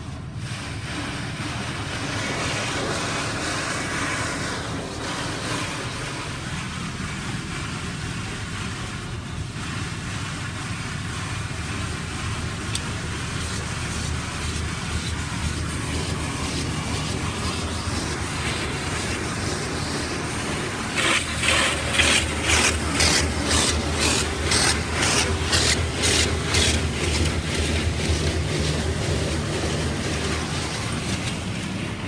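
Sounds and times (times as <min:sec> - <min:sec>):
car wash rushing noise: 0:00.0 - 0:32.0.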